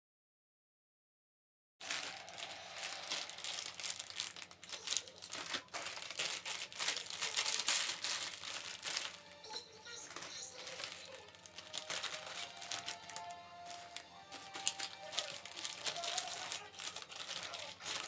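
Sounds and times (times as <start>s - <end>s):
plastic wrappers crinkling: 1.8s - 18.0s.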